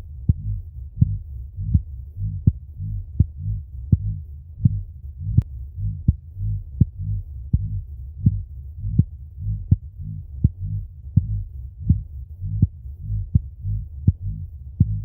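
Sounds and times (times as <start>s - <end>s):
pulsing low boom rumble: 0.0s - 15.0s.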